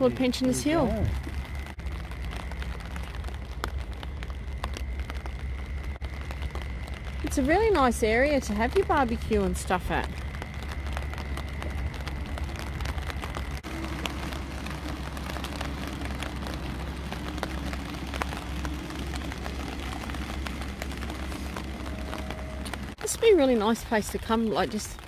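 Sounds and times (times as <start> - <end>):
small ticks: 1.2 - 23.0.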